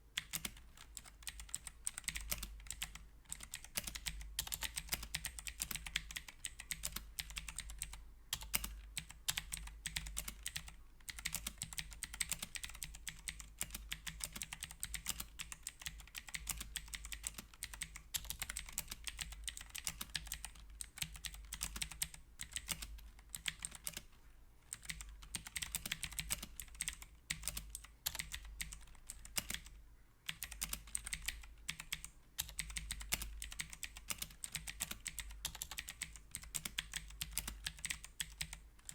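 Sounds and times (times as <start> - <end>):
mechanical keyboard typing: 0.2 - 24.0, 24.7 - 29.7, 30.3 - 38.9.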